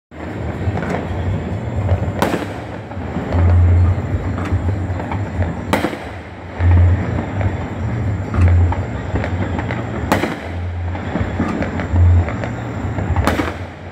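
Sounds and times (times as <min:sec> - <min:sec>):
loud firework bangs: 0:00.2 - 0:13.9
low rumble: 0:00.2 - 0:13.9
distant firework pops crackling: 0:01.8 - 0:13.9.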